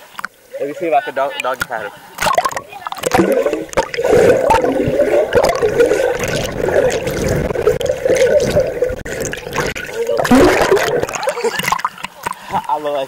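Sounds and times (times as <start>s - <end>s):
pool water splashing: 0.0s - 13.0s.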